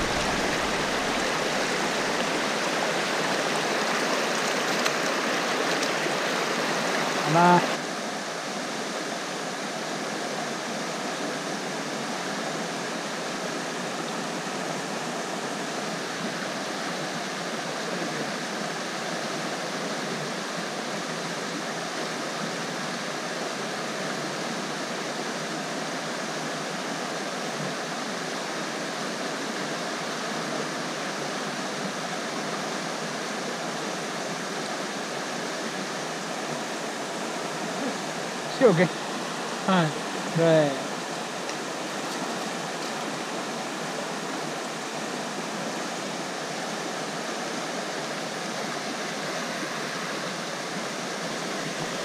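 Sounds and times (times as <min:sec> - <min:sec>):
fast-flowing river rushing: 0:00.0 - 0:52.0.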